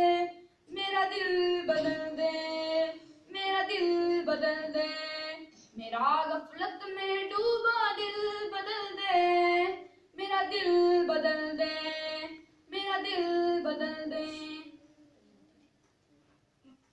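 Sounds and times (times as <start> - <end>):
boy singing unaccompanied: 0.0 - 14.8.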